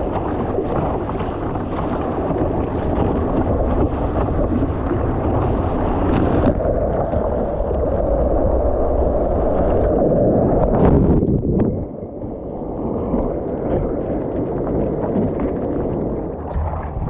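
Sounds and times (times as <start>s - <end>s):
water rushing along hull: 0.0s - 17.0s
wind on microphone: 0.0s - 17.0s.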